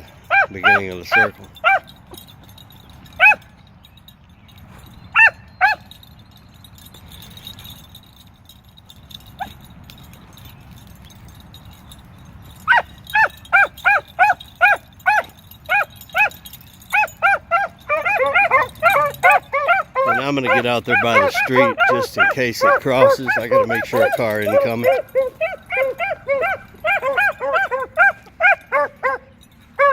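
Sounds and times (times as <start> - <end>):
dogs barking: 0.0 - 3.6, 4.6 - 6.1, 9.1 - 29.9.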